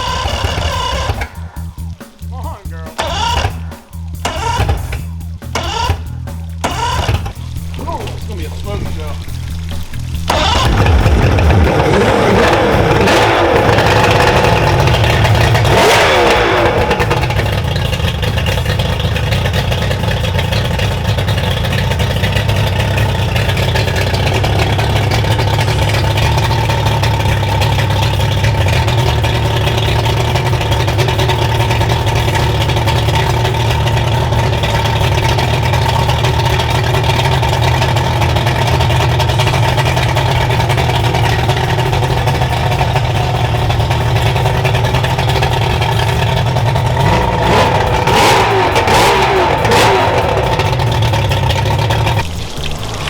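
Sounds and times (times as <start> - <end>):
outboard engine idling: 0.0 - 53.0
outboard engine starting and revving: 0.0 - 53.0.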